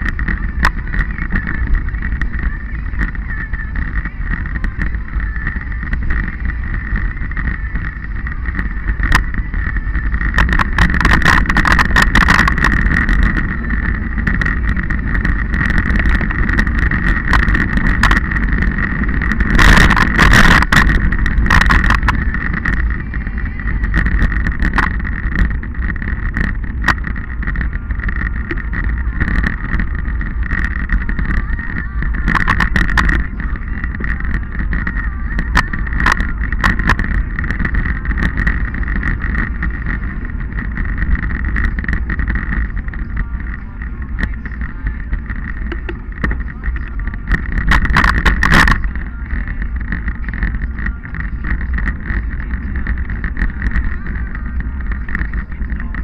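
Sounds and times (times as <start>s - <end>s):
bike rattling over rough track: 0.0s - 56.0s
steady high whine: 0.0s - 56.0s
wind buffeting microphone: 0.0s - 56.0s.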